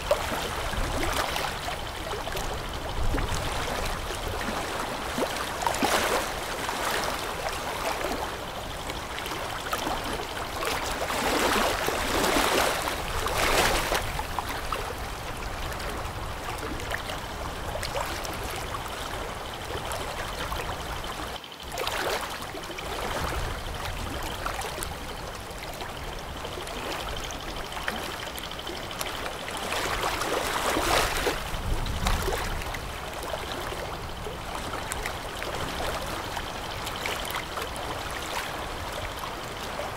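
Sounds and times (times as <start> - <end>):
rushing splashing water: 0.0 - 39.9.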